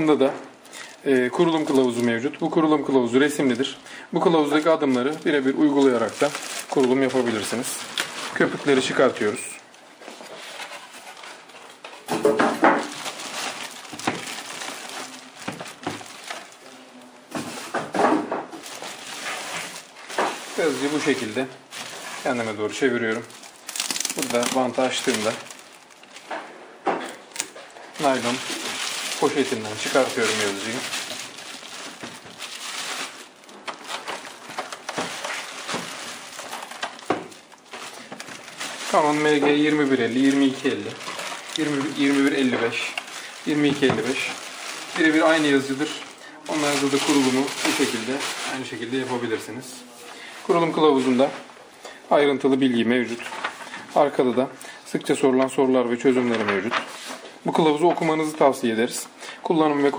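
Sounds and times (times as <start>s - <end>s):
plastic bag crinkling: 0.0s - 17.9s, 18.5s - 51.5s, 52.1s - 55.2s, 55.8s - 59.9s
foam and plastic wrap squeaking: 1.0s - 17.8s, 18.5s - 26.3s, 27.3s - 51.4s.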